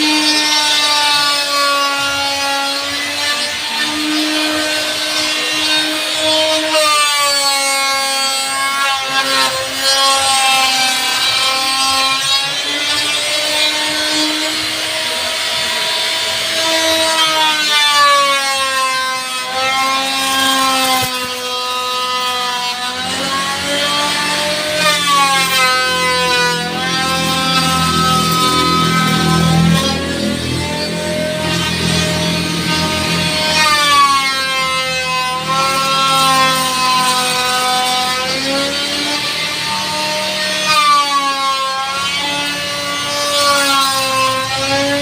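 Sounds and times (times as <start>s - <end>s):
power tool cutting wood: 0.0s - 45.0s.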